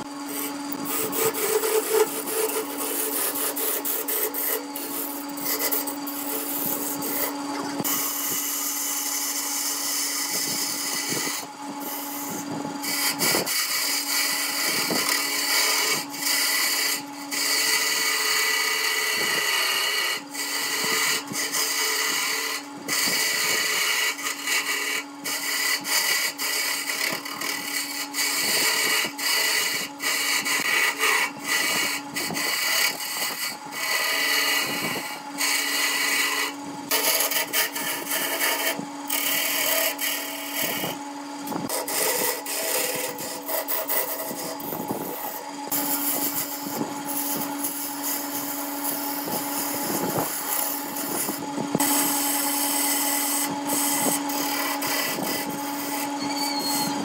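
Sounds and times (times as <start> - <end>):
turning tool scraping wood: 0.0 - 57.0
wood lathe humming: 0.0 - 57.0.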